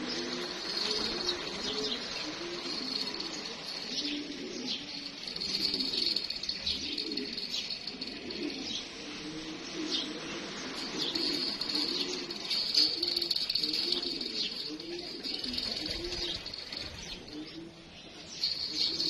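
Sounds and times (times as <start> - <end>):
pigeon cooing: 0.0 - 19.0
steady high chirping: 0.0 - 19.0.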